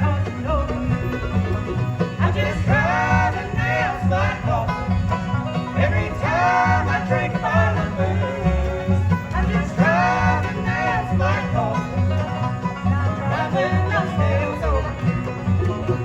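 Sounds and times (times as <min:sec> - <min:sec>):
bluegrass band playing: 0:00.0 - 0:16.0
walking bass line: 0:00.0 - 0:16.0.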